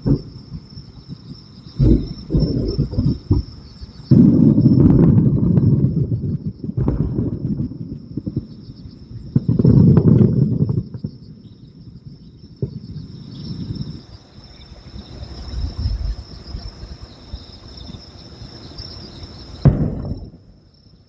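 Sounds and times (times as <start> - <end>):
distant fireworks booms: 0.0 - 18.4, 19.4 - 21.0
crickets chirring: 0.0 - 21.0.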